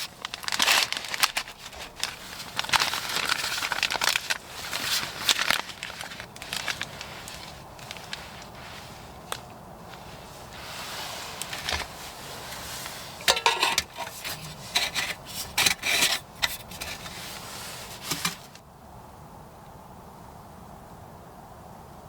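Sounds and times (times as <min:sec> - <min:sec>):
rubbing and scraping handling noise: 0:00.0 - 0:18.6
sharp crinkling and rustling: 0:00.0 - 0:18.6.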